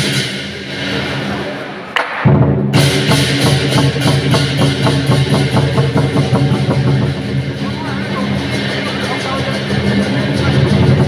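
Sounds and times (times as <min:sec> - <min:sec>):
drums struck in fast rhythm: 0:00.0 - 0:11.0
music: 0:00.0 - 0:11.0.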